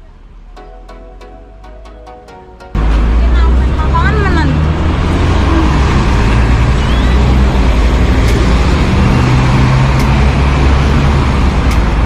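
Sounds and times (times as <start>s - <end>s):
city road traffic: 0.0s - 12.0s
heavy vehicle engine droning: 0.0s - 12.0s.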